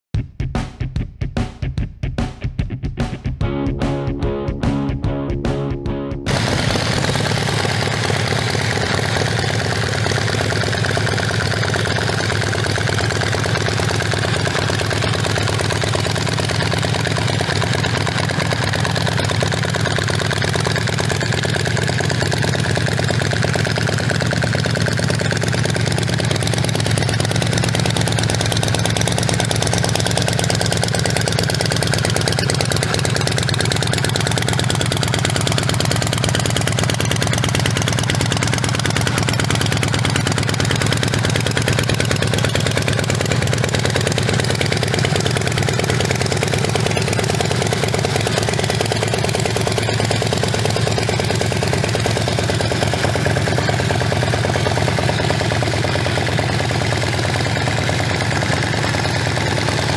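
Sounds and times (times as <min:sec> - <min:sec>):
motorcycle engine idling: 0:06.3 - 0:59.9.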